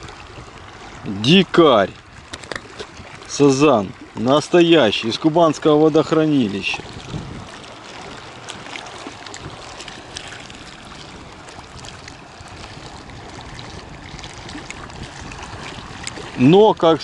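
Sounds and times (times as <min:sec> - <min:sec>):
small waves lapping against concrete: 0:00.0 - 0:17.0.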